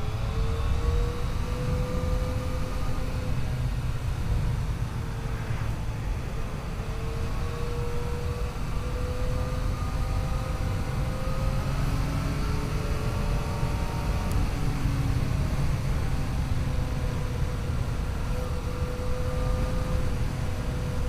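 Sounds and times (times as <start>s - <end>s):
road noise: 0.0s - 21.0s
wind rush: 0.0s - 21.0s.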